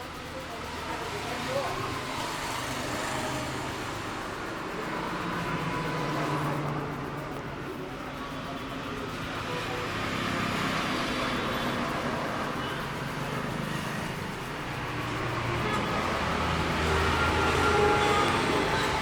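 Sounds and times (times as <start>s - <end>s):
passing vehicle engines humming: 0.0s - 19.0s
street rumble: 0.0s - 19.0s.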